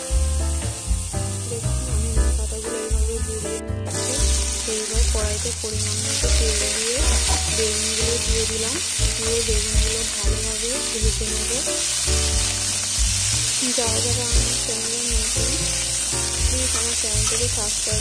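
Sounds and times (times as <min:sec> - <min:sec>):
background music: 0:00.0 - 0:18.0
eggplant sizzling in oil: 0:00.0 - 0:18.0.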